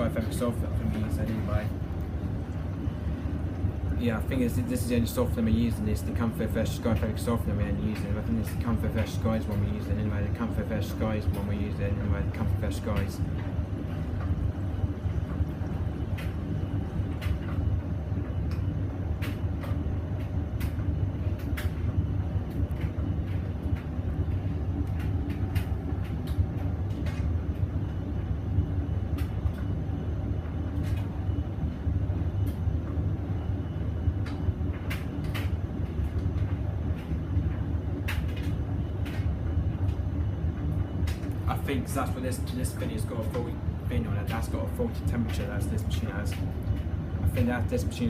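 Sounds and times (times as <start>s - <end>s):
washing machine humming: 0.0s - 48.0s.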